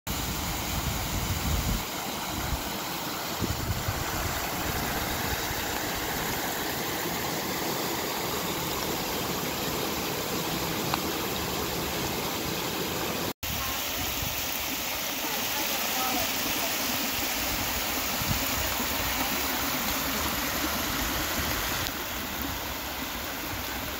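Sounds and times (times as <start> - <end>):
floodwater rushing: 0.1 - 23.9.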